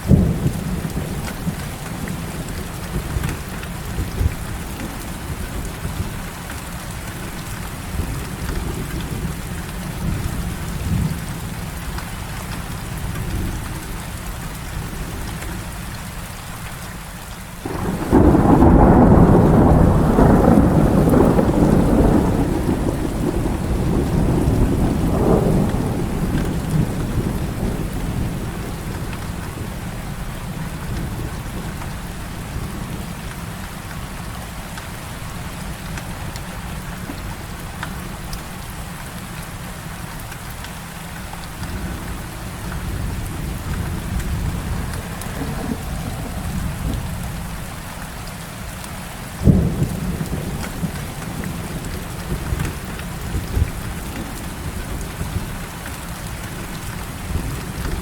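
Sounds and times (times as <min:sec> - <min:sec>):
thunderclap and rumble: 0:00.0 - 0:15.7, 0:17.6 - 0:34.4, 0:41.4 - 0:58.0
heavy rain: 0:00.0 - 0:58.0.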